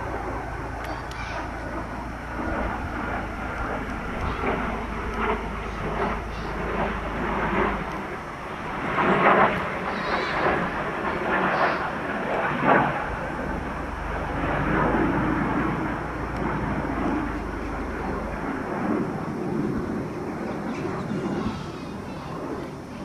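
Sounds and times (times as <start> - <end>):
aircraft engine drone overhead: 0.0 - 23.0.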